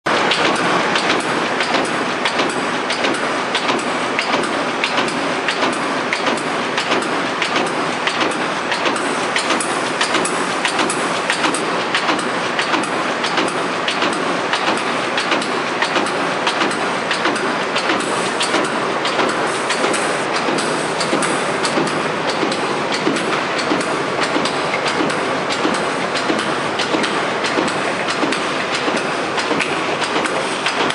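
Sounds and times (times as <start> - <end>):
machine motor running: 0.1 - 30.9
rhythmic clatter of punch strokes: 0.1 - 30.9.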